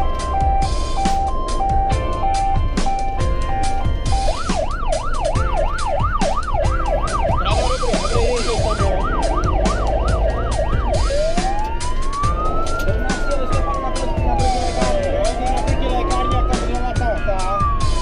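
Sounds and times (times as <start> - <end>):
fire engine siren: 0.0 - 18.0
truck engine and road noise: 0.0 - 18.0.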